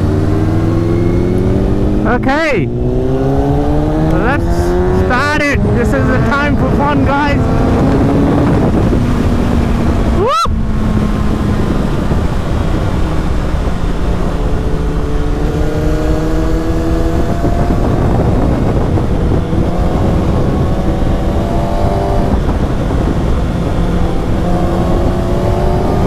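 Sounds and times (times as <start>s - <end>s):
motorcycle engine accelerating: 0.0s - 26.0s
wind and road noise: 0.0s - 26.0s.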